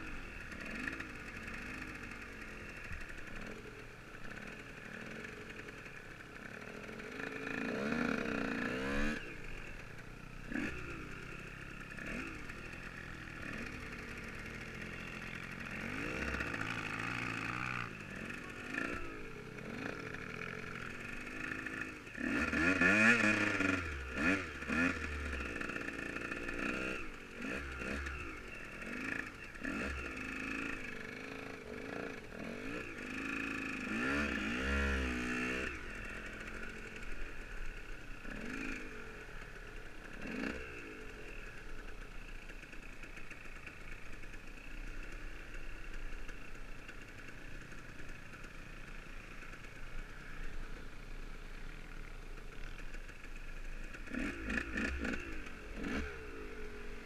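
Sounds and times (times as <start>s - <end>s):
dirt bike engine revving: 0.0s - 50.8s, 52.6s - 57.0s.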